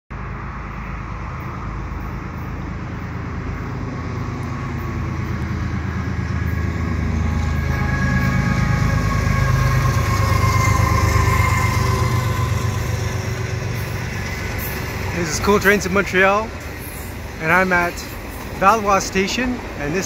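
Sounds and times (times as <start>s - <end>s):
locomotive engine rumble: 0.1s - 20.0s
steady whine: 1.0s - 19.2s.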